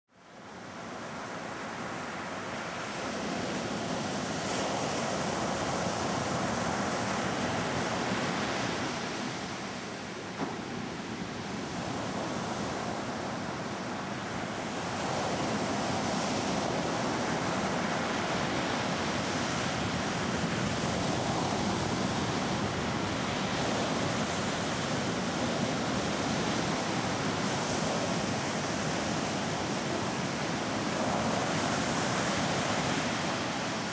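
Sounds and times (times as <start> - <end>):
ocean waves breaking on beach: 0.2 - 33.9.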